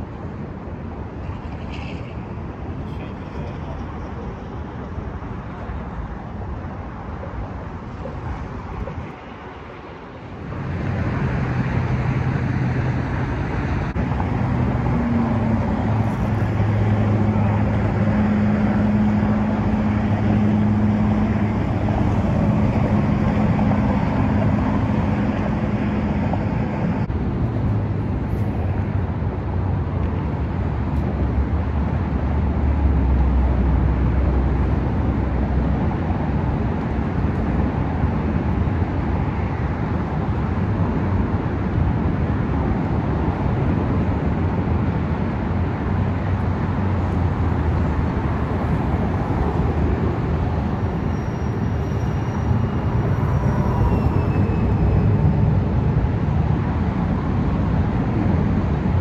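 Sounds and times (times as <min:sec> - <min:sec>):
traffic rumble on bridge: 0:00.0 - 0:59.0.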